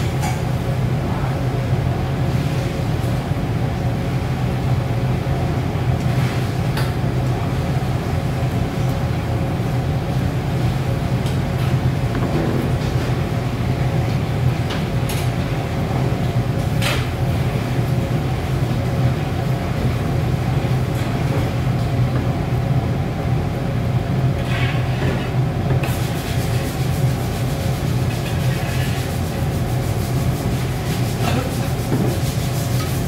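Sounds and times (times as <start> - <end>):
gas burner rumbling: 0.0 - 33.0.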